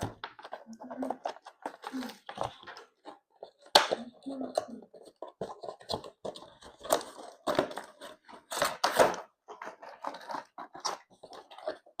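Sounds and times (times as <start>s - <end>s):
packaging rustling and tearing: 0.0s - 12.0s.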